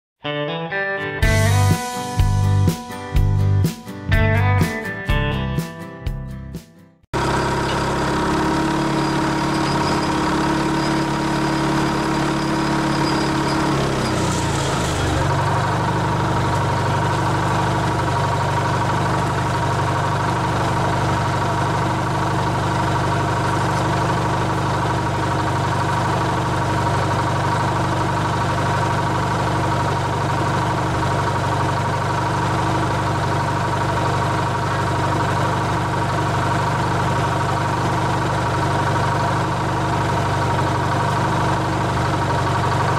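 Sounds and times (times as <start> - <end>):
crane engine running: 7.2 - 42.9.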